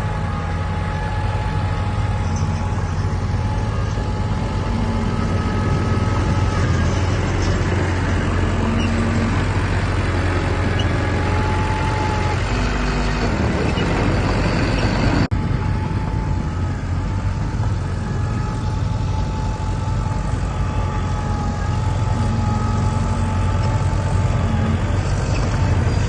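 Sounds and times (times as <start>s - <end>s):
diesel earthmoving machinery running: 0.0s - 26.0s.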